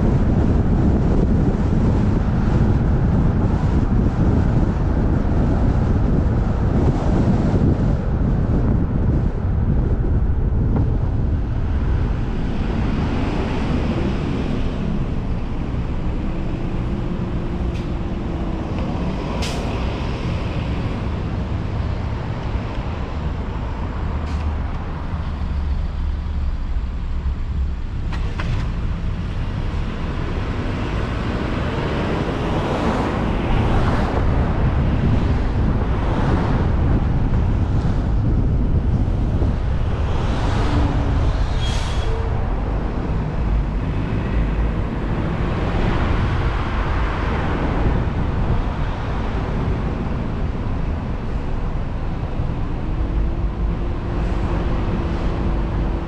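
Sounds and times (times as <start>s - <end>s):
car engine and tyre rumble: 0.0s - 56.0s
other vehicles passing: 0.0s - 56.0s.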